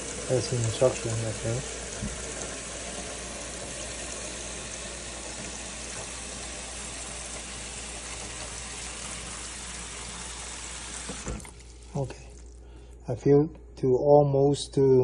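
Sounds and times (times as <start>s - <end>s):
tap water running into tank: 0.0s - 12.6s.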